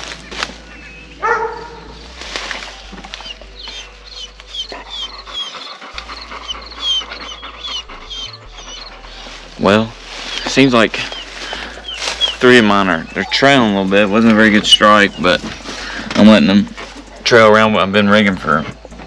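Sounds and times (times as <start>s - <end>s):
dogs whining: 0.7s - 2.0s, 2.8s - 17.8s
dogs panting: 0.8s - 19.0s.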